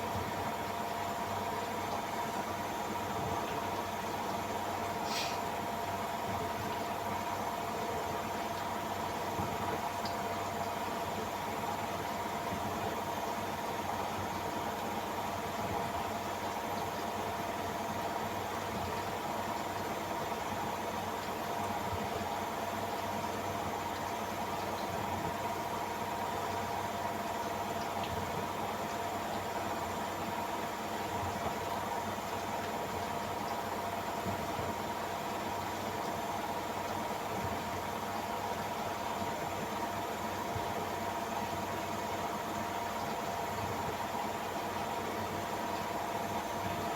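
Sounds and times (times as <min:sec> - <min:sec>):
washing machine spin cycle: 0:00.0 - 0:46.9.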